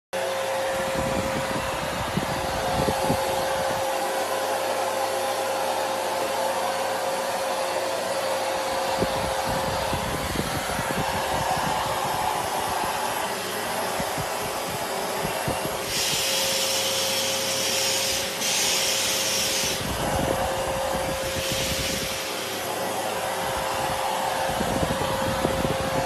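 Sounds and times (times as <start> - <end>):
vacuum cleaner running: 0.2 - 26.0.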